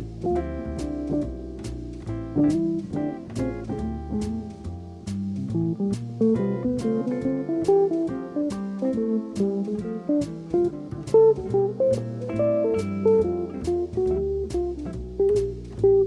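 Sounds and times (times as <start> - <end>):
guitar plucked notes: 0.0 - 16.0.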